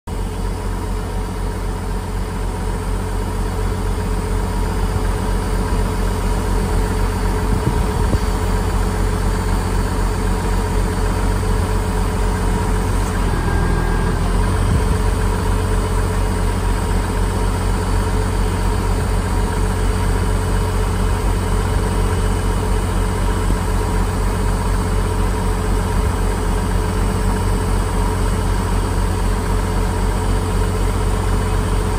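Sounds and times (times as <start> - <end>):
tractor engine idling: 0.1 - 31.9.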